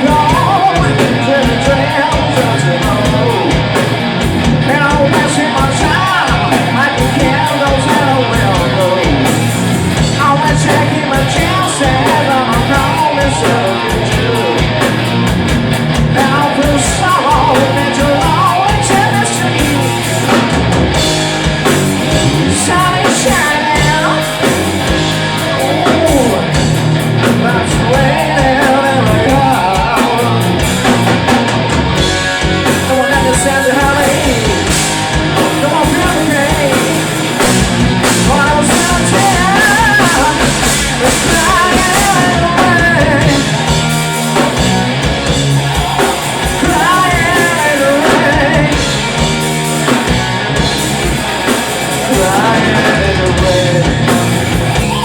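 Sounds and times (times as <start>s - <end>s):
person singing: 0.0s - 3.9s, 4.5s - 9.4s, 10.0s - 15.0s, 16.0s - 20.6s, 22.1s - 31.4s, 32.1s - 37.4s, 38.0s - 50.1s, 51.8s - 55.0s
rock band playing live: 0.0s - 55.0s.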